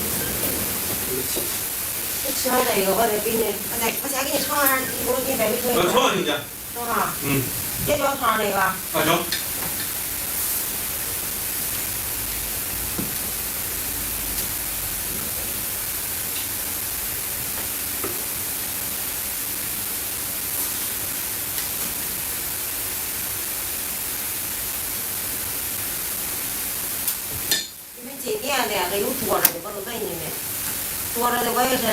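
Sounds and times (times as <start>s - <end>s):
steady hiss: 0.0s - 31.9s.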